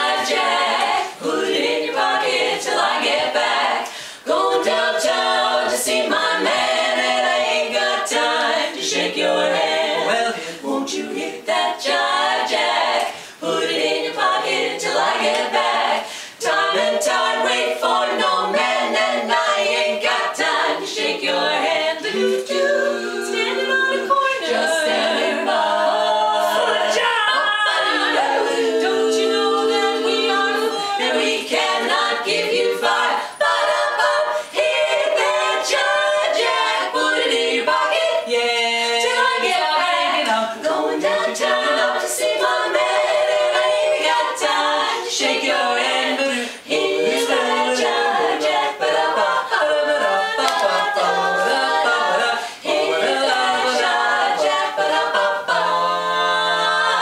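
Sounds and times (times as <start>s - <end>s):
women singing a cappella harmony: 0.0s - 57.0s.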